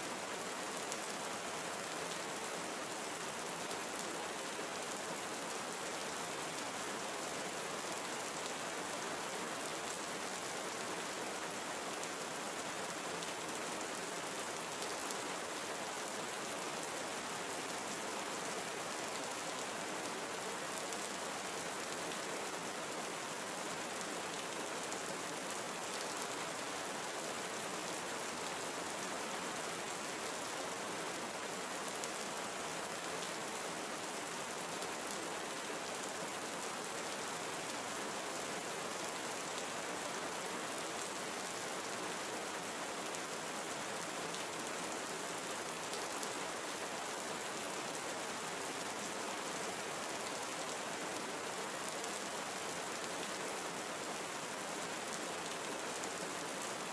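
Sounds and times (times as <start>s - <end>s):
rain on leaves: 0.0s - 56.9s.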